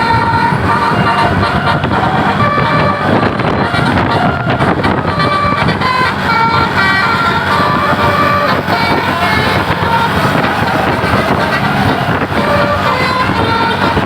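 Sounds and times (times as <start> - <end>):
bus horn playing a tune: 0.0 - 14.0
vehicle and traffic rumble: 0.0 - 14.0.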